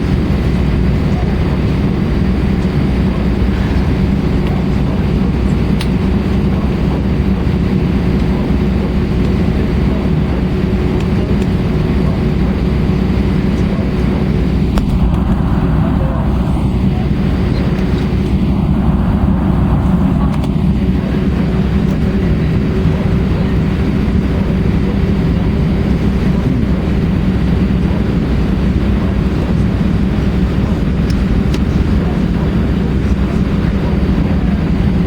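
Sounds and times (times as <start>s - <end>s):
airplane cabin rumble: 0.0s - 35.0s
faint hum: 0.0s - 35.0s.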